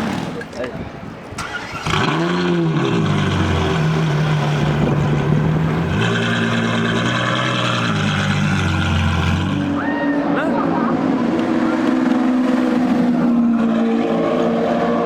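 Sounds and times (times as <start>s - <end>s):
car engine revving and idling: 1.7s - 9.8s, 10.5s - 15.0s.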